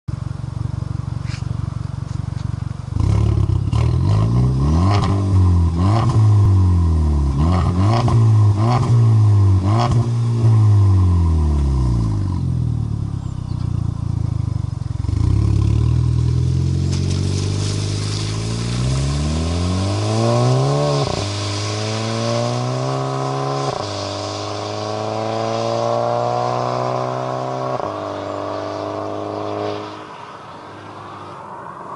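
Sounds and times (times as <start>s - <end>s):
car engine revving: 0.4s - 31.3s.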